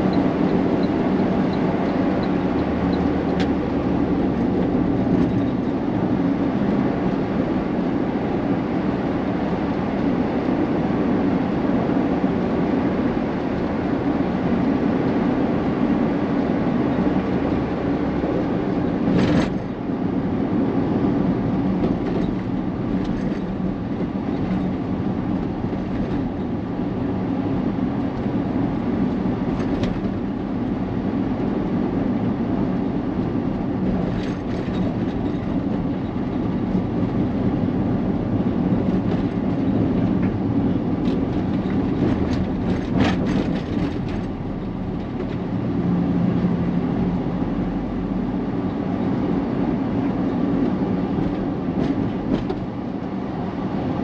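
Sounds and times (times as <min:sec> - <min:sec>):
vehicle engine and tyre drone: 0:00.0 - 0:54.0.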